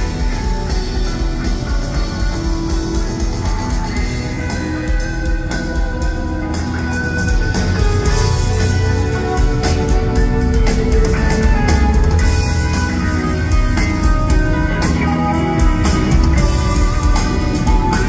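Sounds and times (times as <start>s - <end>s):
bass guitar: 0.0s - 18.0s
drum kit: 0.0s - 18.0s
electric guitars: 0.0s - 18.0s.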